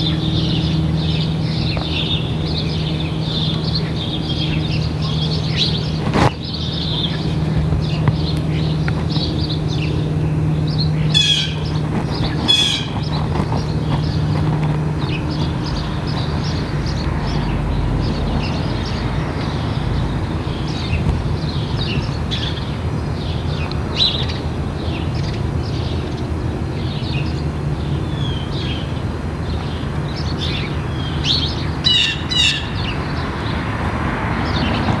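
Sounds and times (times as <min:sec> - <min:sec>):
distant propeller plane droning: 0:00.0 - 0:35.0
small birds chirping: 0:00.0 - 0:35.0.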